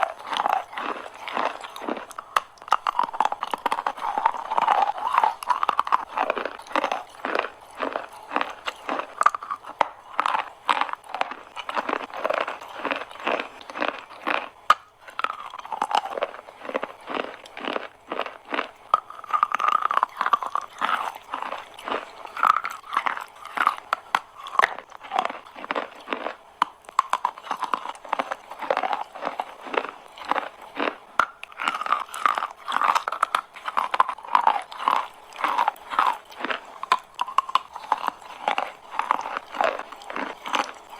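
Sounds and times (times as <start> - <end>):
chalk being chewed: 0.0 - 40.9.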